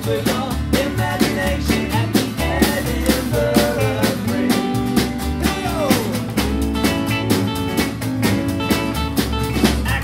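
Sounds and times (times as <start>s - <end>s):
rockabilly band playing live: 0.0s - 10.0s.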